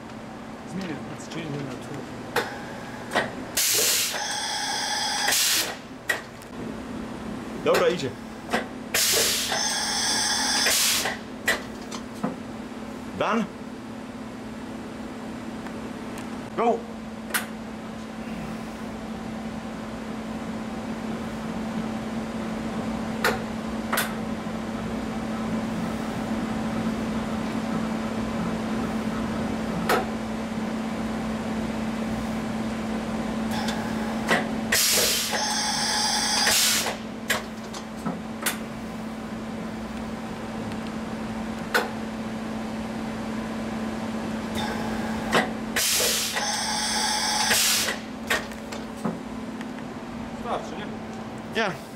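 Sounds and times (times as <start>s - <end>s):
machining center humming: 0.0s - 51.9s.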